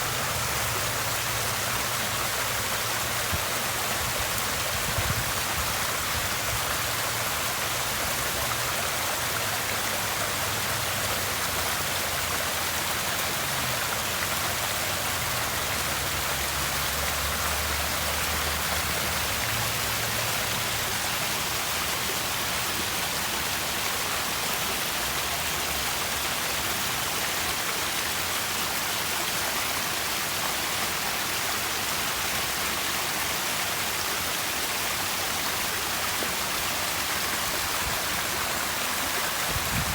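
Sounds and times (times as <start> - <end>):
water feature splashing: 0.0 - 39.9.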